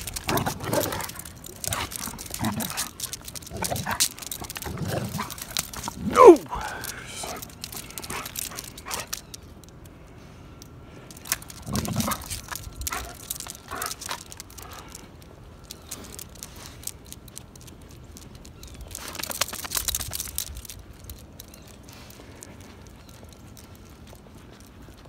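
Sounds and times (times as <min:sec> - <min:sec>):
dog trotting on pavement: 0:00.0 - 0:09.8, 0:11.1 - 0:25.0
footsteps crunching on pavement: 0:00.0 - 0:09.8, 0:11.1 - 0:25.0.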